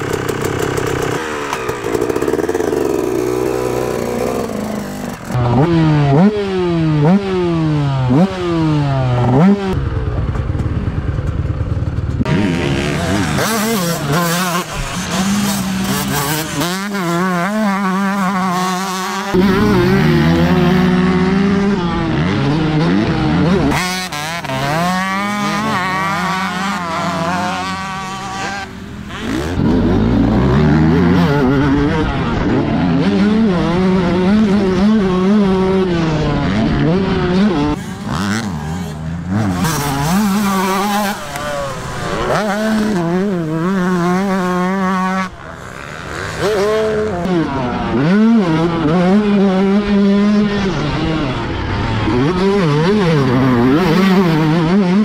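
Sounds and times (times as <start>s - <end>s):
motocross engines revving: 0.0s - 55.0s.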